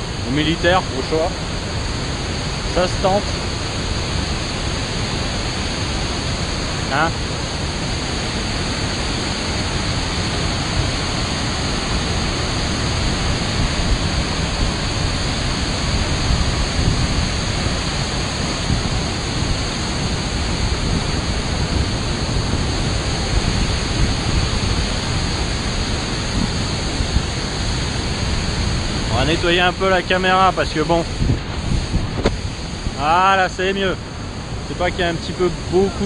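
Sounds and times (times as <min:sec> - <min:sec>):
waterfall crashing: 0:00.0 - 0:36.0.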